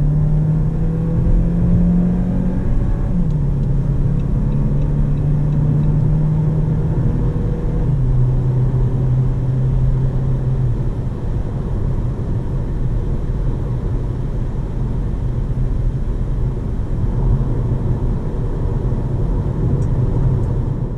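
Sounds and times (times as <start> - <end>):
engine hum: 0.0 - 20.9.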